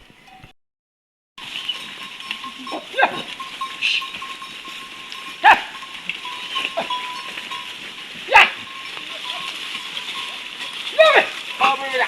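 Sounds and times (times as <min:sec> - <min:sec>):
sheep bleating: 0:02.0 - 0:12.0.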